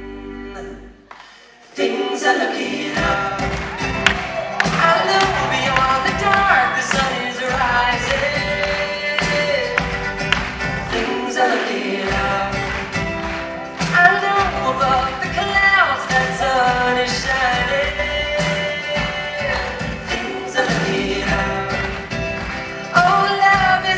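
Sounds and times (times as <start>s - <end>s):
voices singing in harmony: 0.0s - 23.9s
steady percussion: 3.0s - 23.9s.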